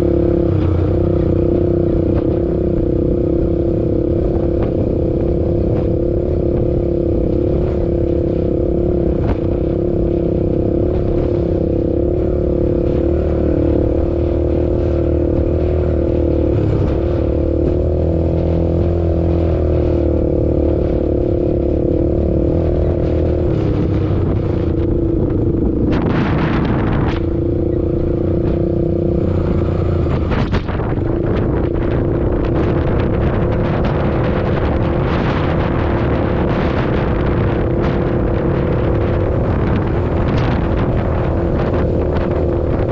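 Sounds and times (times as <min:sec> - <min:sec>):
engine droning at speed: 0:00.0 - 0:42.9.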